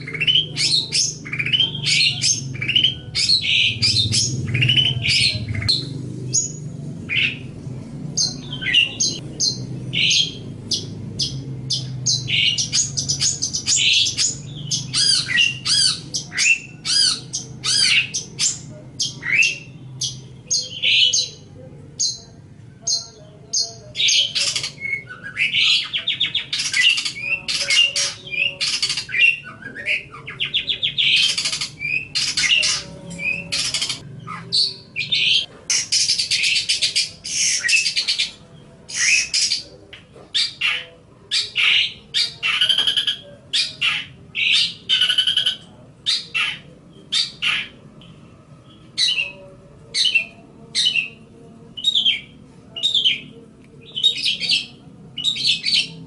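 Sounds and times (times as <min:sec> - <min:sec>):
bird chattering song: 0:00.0 - 0:51.2, 0:51.8 - 0:56.0.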